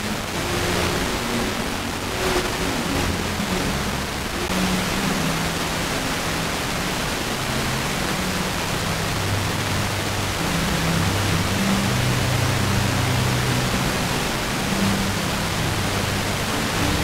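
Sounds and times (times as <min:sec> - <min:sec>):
faint low music: 0:00.0 - 0:17.0
radio static hiss: 0:00.0 - 0:17.0.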